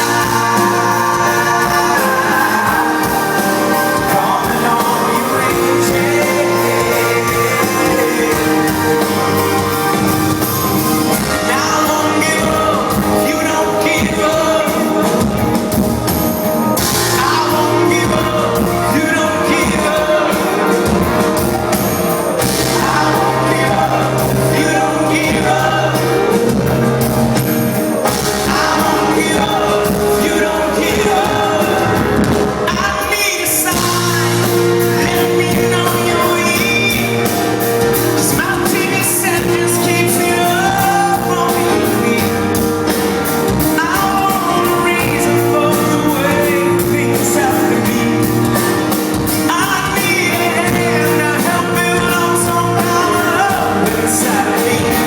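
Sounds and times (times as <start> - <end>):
lead vocal singing: 0.0 - 55.0
live rock band playing: 0.0 - 55.0.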